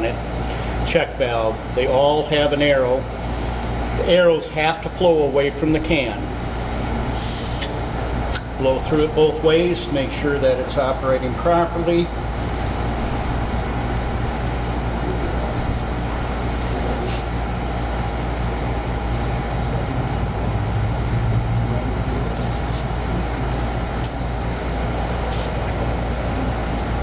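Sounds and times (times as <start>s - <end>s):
machinery hum and hiss: 0.0s - 27.0s.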